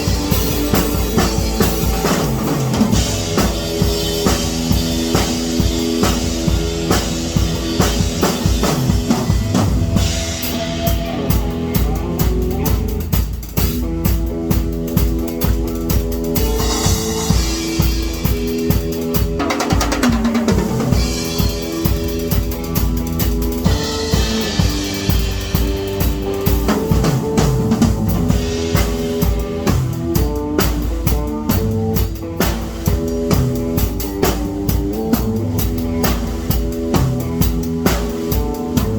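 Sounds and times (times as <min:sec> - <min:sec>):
drum kit beat: 0:00.0 - 0:38.9.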